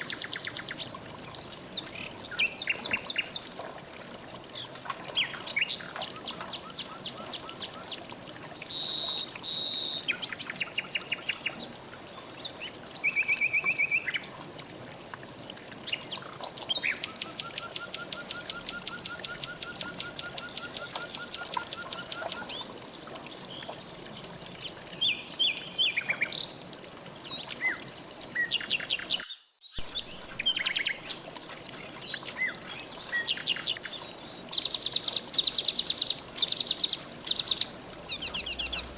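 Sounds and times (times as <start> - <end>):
songbirds singing: 0.0 - 3.5, 4.5 - 8.1, 8.7 - 14.4, 15.8 - 26.6, 27.2 - 38.9
flowing water: 0.0 - 38.9.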